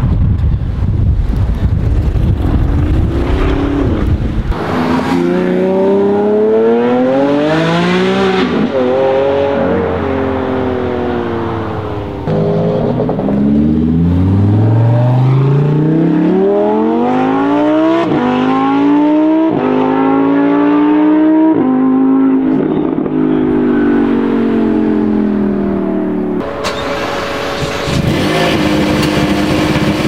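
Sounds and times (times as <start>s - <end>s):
sports car engine accelerating: 1.8s - 30.0s.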